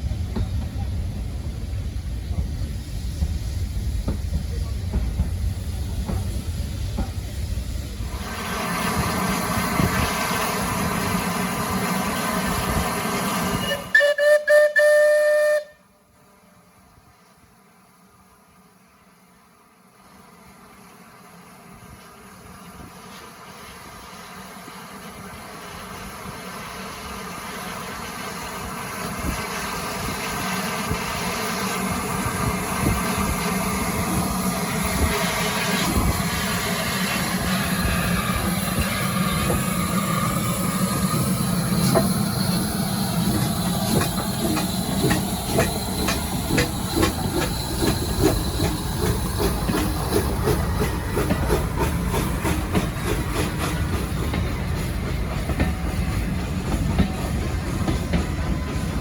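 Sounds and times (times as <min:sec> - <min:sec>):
train wheels clicking over rails: 0:00.0 - 0:13.6, 0:21.8 - 0:59.0
steam locomotive hissing: 0:00.0 - 0:59.0.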